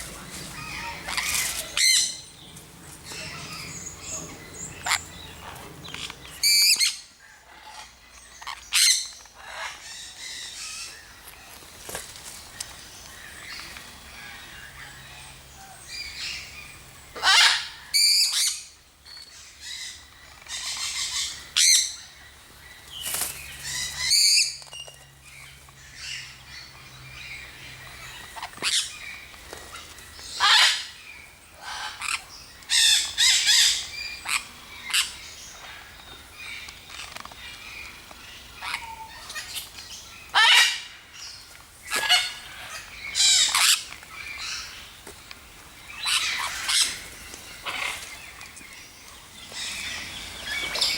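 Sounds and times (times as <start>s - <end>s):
harsh bird calls: 0.0s - 11.2s, 12.6s - 45.1s, 45.7s - 50.9s.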